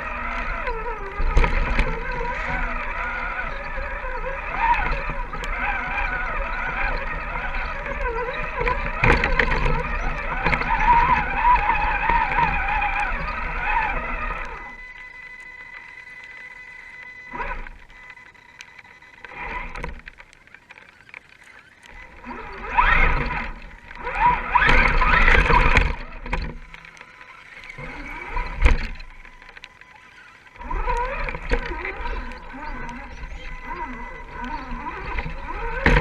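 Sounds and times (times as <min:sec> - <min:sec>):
toy car electric motor whining: 0:00.0 - 0:36.0.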